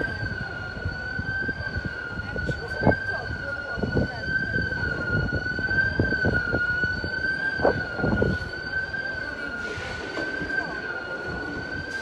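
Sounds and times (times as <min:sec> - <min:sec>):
high-pitched alarm tone: 0:00.0 - 0:12.0
low street rumble: 0:00.0 - 0:12.0.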